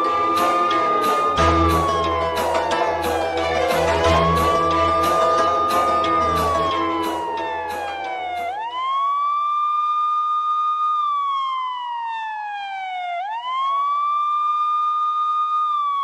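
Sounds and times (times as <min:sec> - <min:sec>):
wailing siren: 0:00.0 - 0:16.0.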